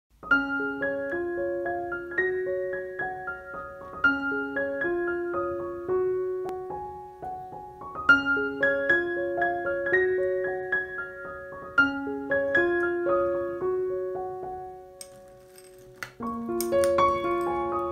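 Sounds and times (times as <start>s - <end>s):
gentle piano melody: 0.2s - 17.9s.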